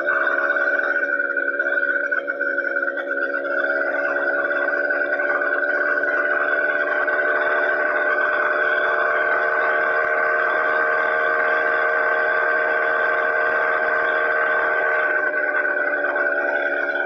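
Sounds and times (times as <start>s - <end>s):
small engine whining: 0.0s - 17.0s.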